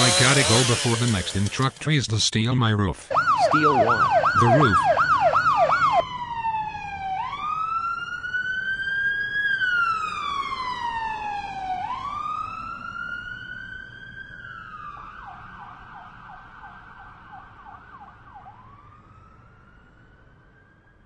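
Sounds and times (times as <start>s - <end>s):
emergency vehicle siren: 3.1s - 21.0s.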